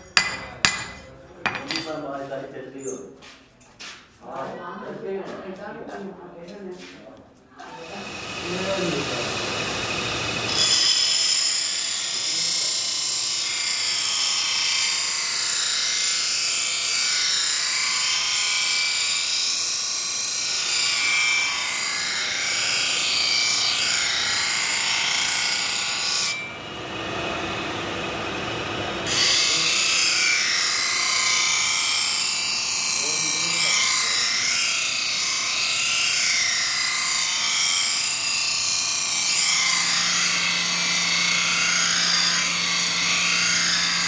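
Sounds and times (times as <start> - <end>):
knife grinding on grinding wheel: 7.8 - 44.0.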